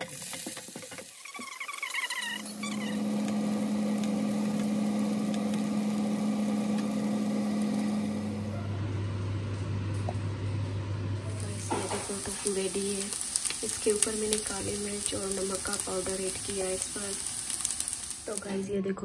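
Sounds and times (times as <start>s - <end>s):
tofu sizzling in oil: 0.0s - 8.2s, 11.3s - 18.6s
kitchen appliance electrical hum: 1.4s - 19.0s.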